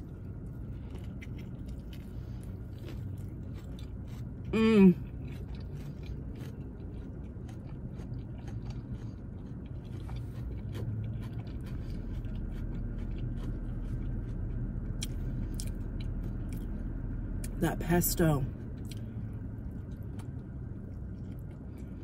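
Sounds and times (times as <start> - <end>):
close chewing: 0.0 - 16.8, 18.7 - 22.0.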